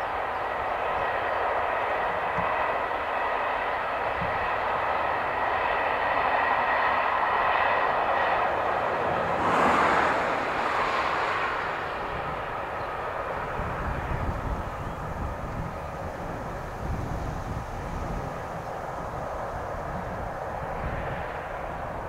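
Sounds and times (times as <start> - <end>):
distant passing train: 0.0 - 22.0.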